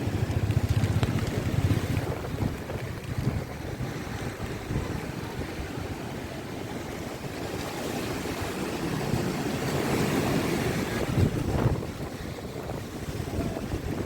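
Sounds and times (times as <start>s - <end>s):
surf breaking and washing: 0.0s - 14.0s
wind buffeting microphone: 0.0s - 14.0s.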